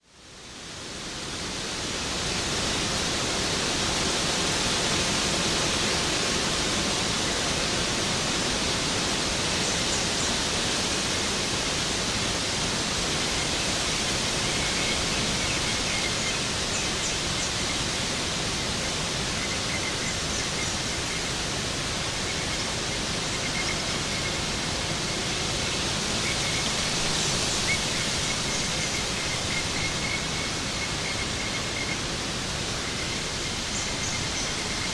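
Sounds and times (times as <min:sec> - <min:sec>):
waterfall rushing: 0:00.7 - 0:34.9.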